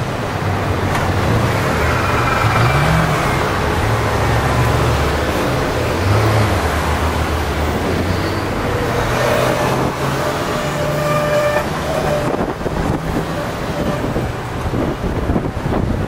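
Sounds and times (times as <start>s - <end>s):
bus engine low hum: 0.0s - 16.0s
road traffic: 0.0s - 16.0s
tram running gear whine: 0.0s - 16.0s.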